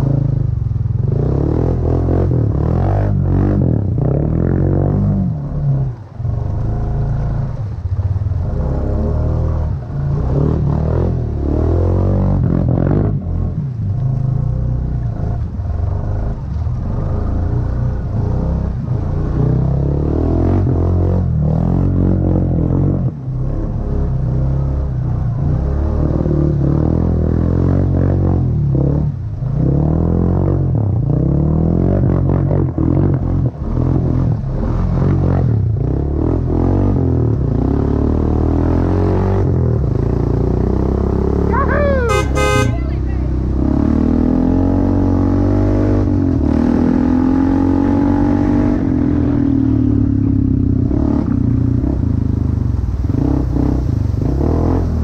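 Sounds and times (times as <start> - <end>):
atv engine revving: 0.0 - 55.0
low rumble: 0.0 - 55.0.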